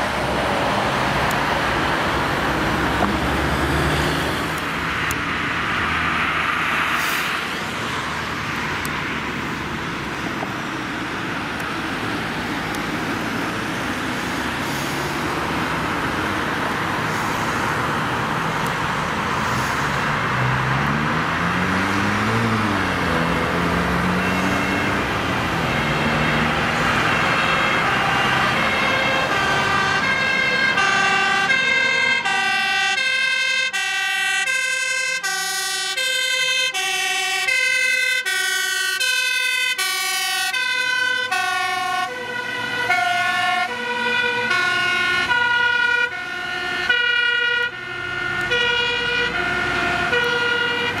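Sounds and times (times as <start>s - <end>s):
engine and road traffic noise: 0.0s - 51.0s
two-tone fire engine siren: 1.0s - 51.0s.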